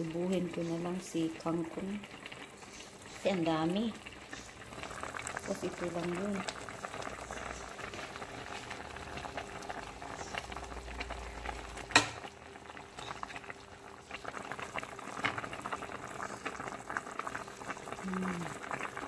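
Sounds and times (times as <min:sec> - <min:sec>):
soup boiling with bubble pops: 0:00.0 - 0:19.0.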